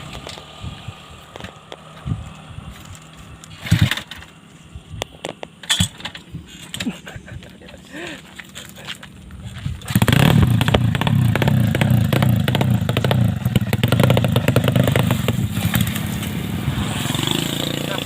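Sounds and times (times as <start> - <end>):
motorcycle engine running: 0.0 - 6.0, 9.1 - 18.0.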